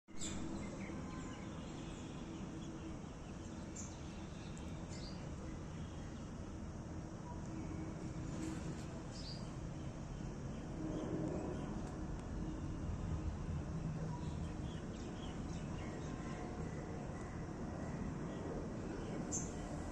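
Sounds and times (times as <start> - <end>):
low rumble with hum: 0.1 - 19.9.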